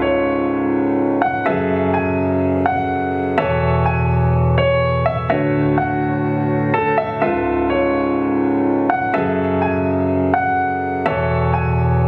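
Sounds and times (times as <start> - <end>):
bass line: 0.0 - 12.0
keyboard chords: 0.0 - 12.0.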